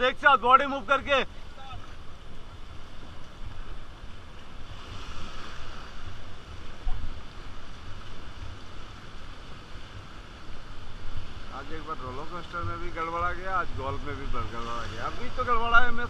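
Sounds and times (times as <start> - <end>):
river water rushing and splashing: 0.0 - 16.0.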